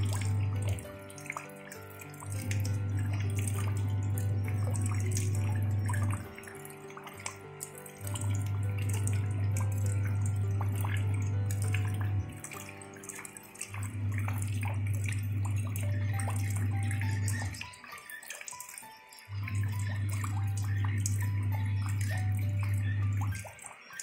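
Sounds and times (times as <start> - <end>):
rain falling into puddle: 0.0 - 22.6
soft music with held notes: 0.0 - 24.0.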